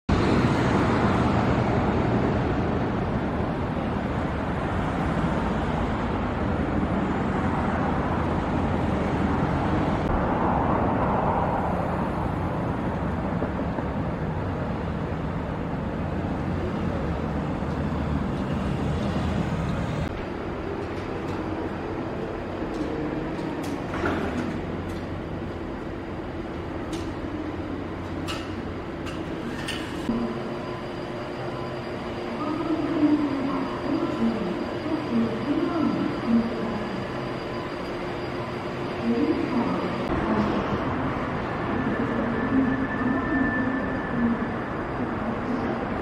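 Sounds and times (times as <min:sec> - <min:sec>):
road traffic noise: 0:00.1 - 0:46.0.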